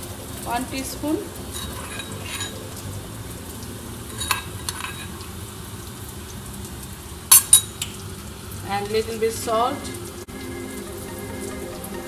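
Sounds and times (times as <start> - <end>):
onion frying in oil: 0.0 - 12.0.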